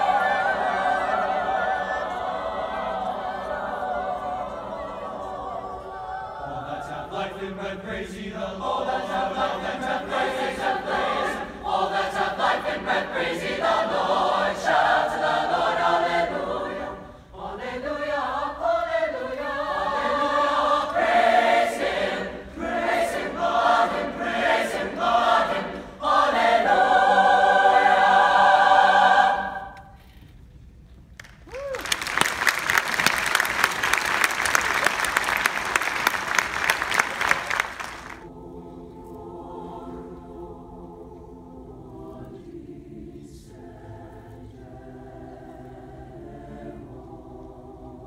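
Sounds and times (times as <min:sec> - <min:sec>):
choir singing: 0:00.0 - 0:30.1, 0:36.8 - 0:48.0.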